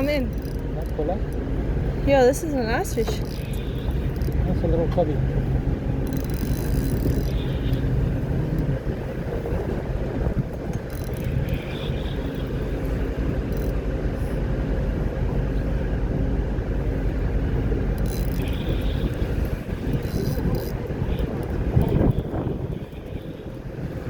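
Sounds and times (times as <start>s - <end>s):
boat engine droning: 0.0s - 24.0s
wind noise on microphone: 2.0s - 24.0s.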